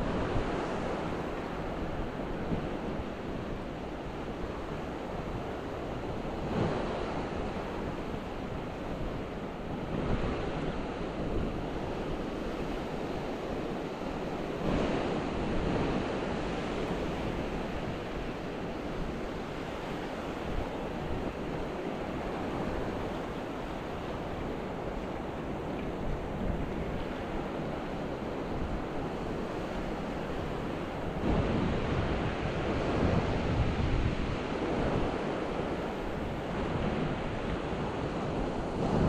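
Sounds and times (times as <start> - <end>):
ocean waves breaking on beach: 0.0 - 39.0
wind on microphone: 0.0 - 39.0.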